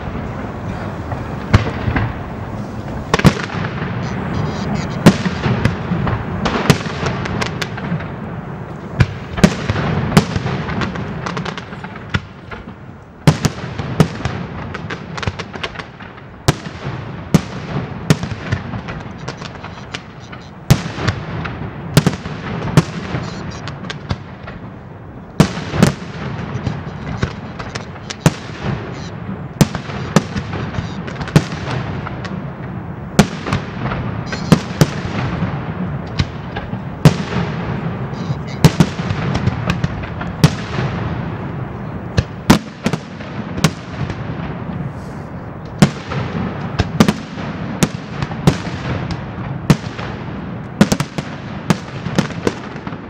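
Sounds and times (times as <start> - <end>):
fireworks bursting with sharp bangs: 0.0 - 53.0.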